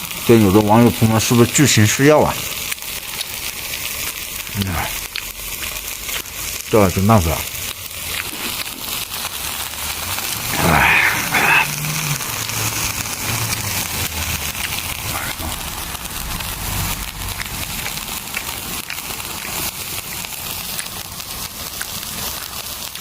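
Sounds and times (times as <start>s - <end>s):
crackling hiss: 0.0s - 23.0s.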